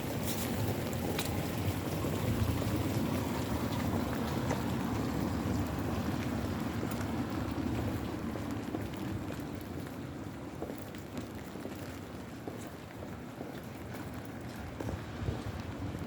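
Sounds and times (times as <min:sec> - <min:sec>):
steady rain: 0:00.0 - 0:12.4, 0:13.8 - 0:16.0.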